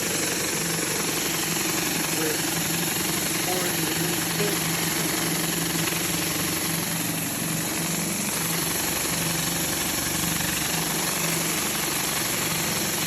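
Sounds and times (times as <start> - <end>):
high-pressure water hissing: 0.0 - 13.0
pressure washer engine drone: 0.0 - 13.0.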